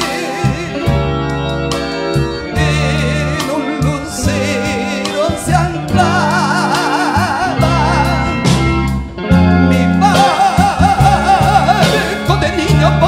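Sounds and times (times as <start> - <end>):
lead melody with vibrato: 0.0 - 13.0
live band playing ballad: 0.0 - 13.0.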